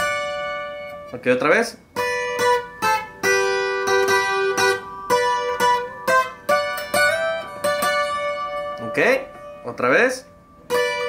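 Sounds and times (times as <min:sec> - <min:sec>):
twelve-string acoustic guitar notes: 0:00.0 - 0:11.0.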